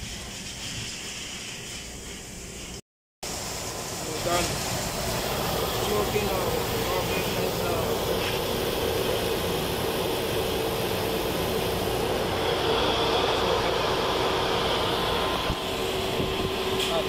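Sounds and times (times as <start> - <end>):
air conditioner running: 0.0 - 17.0.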